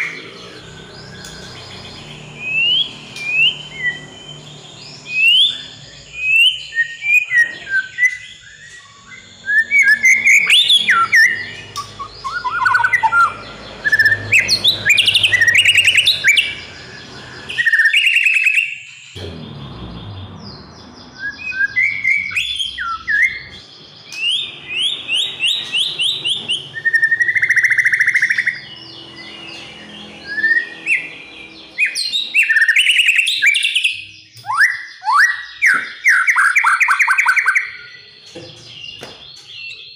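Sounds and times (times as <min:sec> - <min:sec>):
songbird singing whistles and trills: 0:00.0 - 0:19.2, 0:21.0 - 0:39.9.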